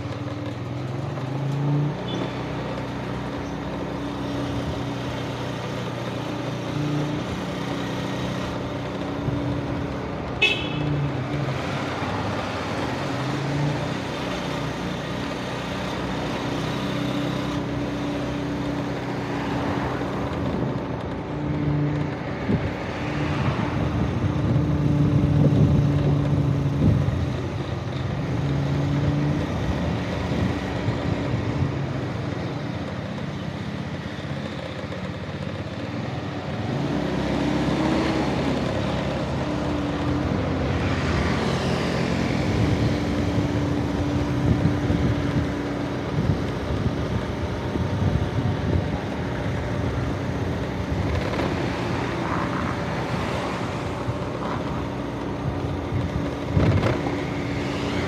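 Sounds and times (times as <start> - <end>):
car and motorbike engines passing: 0.0 - 58.0.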